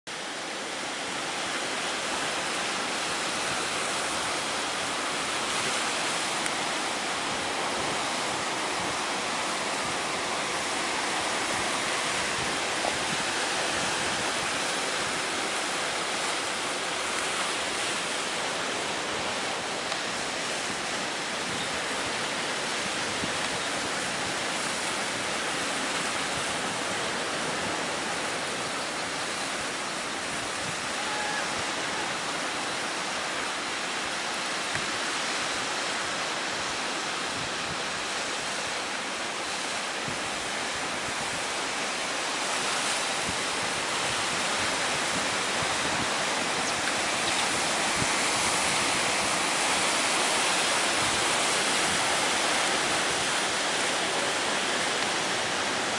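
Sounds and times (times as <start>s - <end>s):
strong wind: 0.1s - 55.9s
waves breaking: 0.1s - 55.9s.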